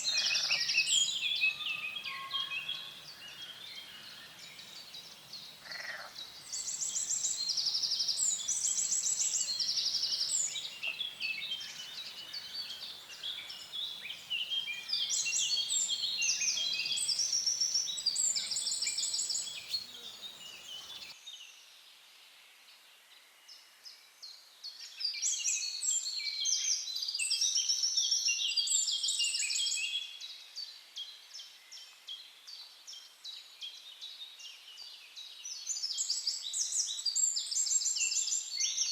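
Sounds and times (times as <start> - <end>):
songbirds singing: 0.0 - 21.5, 24.3 - 38.9.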